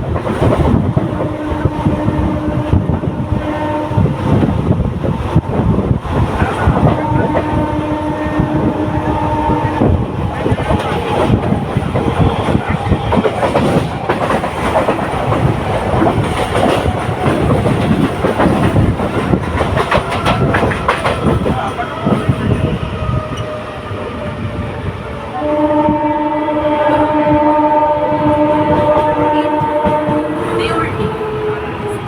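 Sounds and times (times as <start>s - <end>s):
train wheels clicking on rails: 0.0s - 3.0s, 4.0s - 24.8s, 28.3s - 32.0s.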